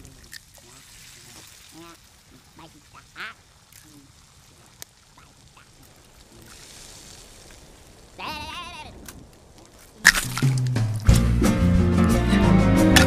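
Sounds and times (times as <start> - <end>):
bacon and eggs sizzling in a pan: 0.0 - 11.0
small crackles: 0.0 - 11.2.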